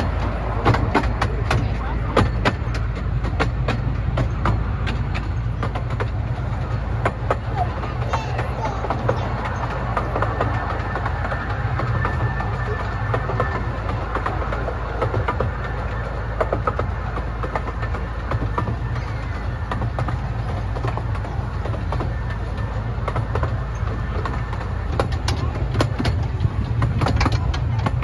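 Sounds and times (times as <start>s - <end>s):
train low rumble: 0.0s - 28.0s
wheels clattering on track: 0.0s - 28.0s.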